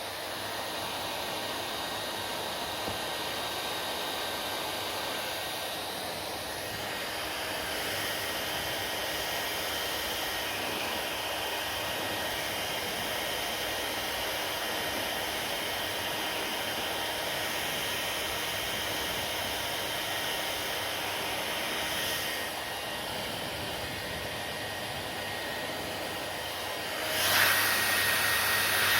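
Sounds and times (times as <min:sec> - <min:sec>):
hair dryer running: 0:00.0 - 0:28.9.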